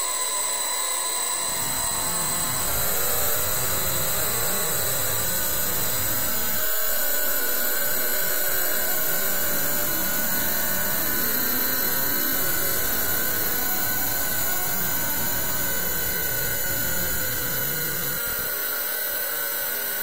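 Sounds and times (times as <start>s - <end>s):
faint high steady tones: 0.0s - 19.0s
loud static-like rushing noise: 1.4s - 18.6s.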